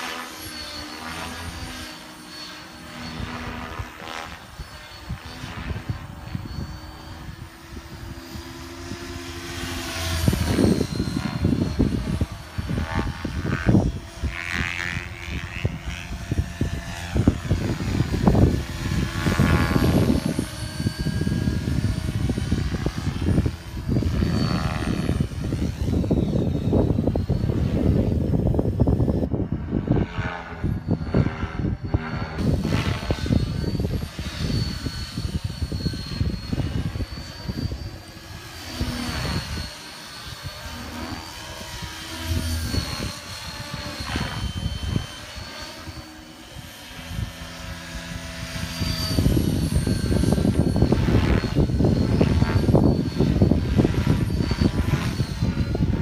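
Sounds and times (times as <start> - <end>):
high motor whine: 0.0 - 56.0
rc helicopter rotor whooshing: 0.0 - 56.0.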